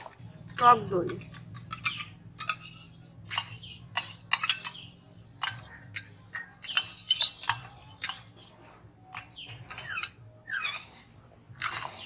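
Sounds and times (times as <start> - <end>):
metal utensils clinking on steel bowl: 0.0 - 12.0.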